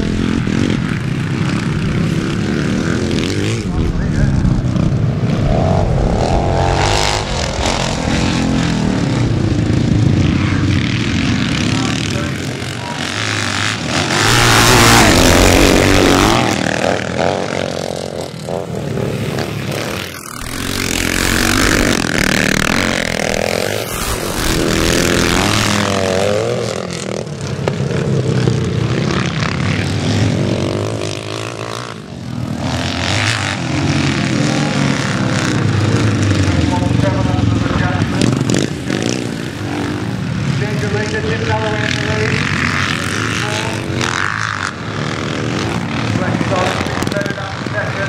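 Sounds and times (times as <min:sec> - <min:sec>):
motocross bikes racing past: 0:00.0 - 0:48.0.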